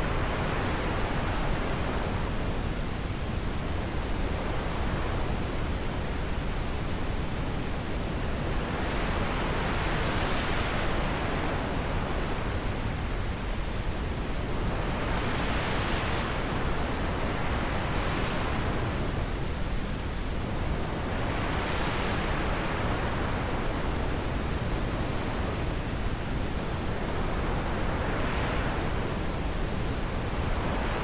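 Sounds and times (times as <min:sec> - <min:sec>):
wind blowing in gusts: 0:00.0 - 0:31.0.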